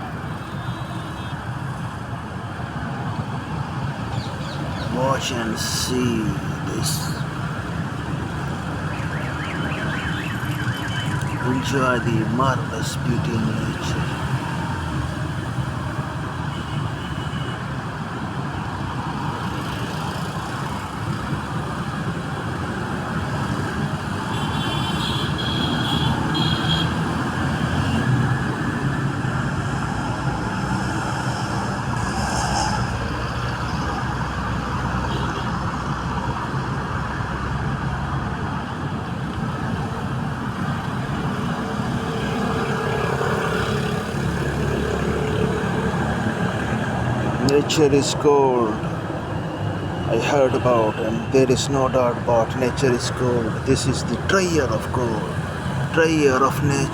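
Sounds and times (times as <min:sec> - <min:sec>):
distant road traffic: 0:00.0 - 0:56.9.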